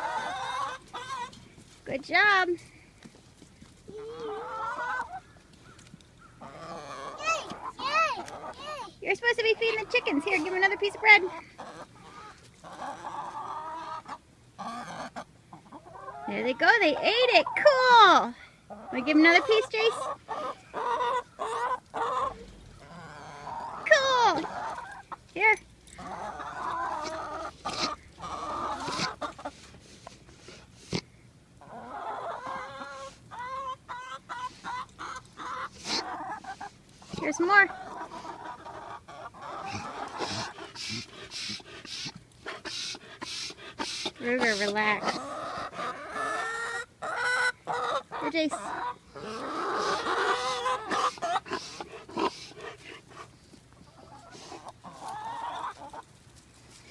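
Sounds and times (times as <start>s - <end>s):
chickens clucking: 0.0s - 56.9s.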